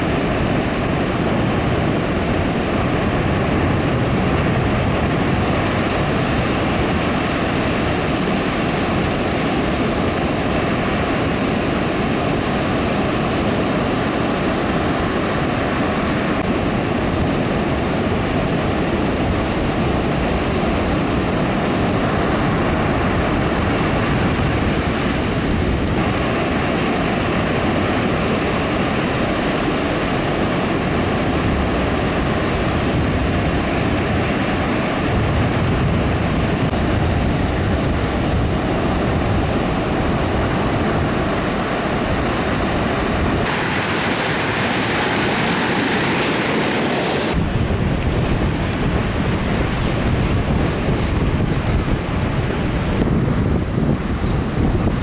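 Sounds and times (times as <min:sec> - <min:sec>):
strong wind buffeting microphone: 0:00.0 - 0:55.0
surf: 0:00.0 - 0:55.0.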